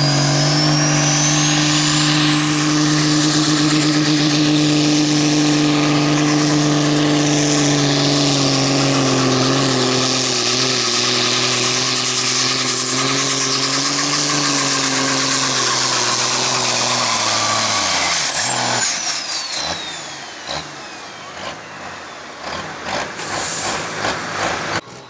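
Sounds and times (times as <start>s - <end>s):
high whine winding down: 0.0s - 25.0s
tractor engine at full power: 0.0s - 25.0s.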